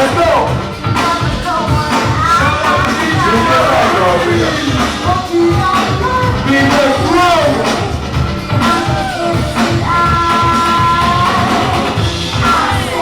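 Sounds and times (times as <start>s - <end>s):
loud music with heavy beat: 0.0s - 13.0s.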